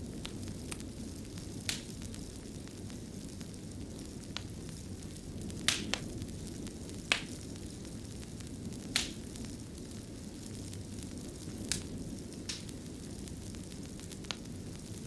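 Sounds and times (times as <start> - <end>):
wood fire crackling: 0.0 - 15.0
burning wood popping: 0.1 - 15.0.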